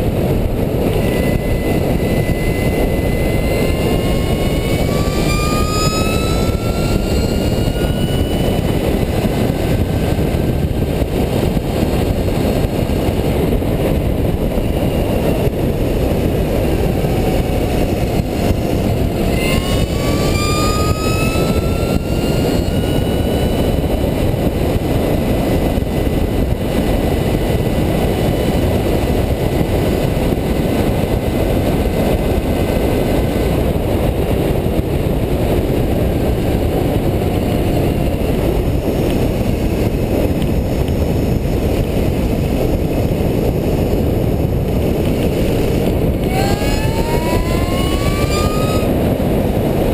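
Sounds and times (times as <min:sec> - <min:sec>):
electric motor whine: 0:00.0 - 0:49.9
wind noise on microphone: 0:00.0 - 0:49.9.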